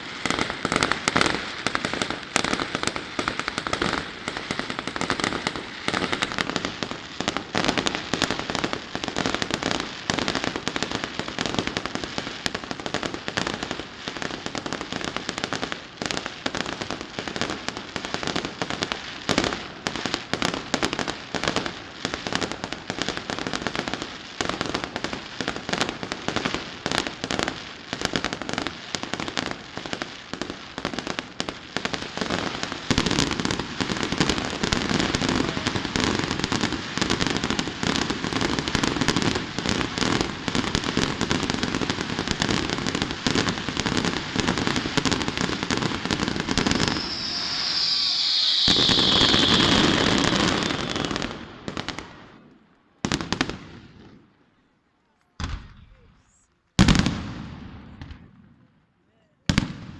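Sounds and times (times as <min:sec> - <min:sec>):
fireworks crackling: 0:00.0 - 0:54.4, 0:55.3 - 0:58.3.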